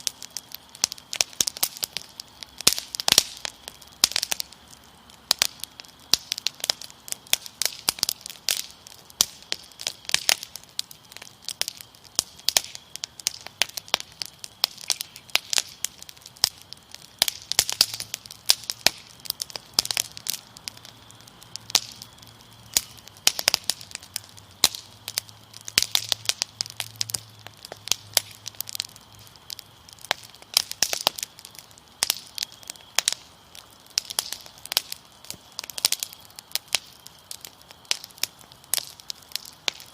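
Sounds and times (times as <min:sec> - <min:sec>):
crickets trilling: 0:00.0 - 0:39.9
fire crackling and popping: 0:00.0 - 0:39.9.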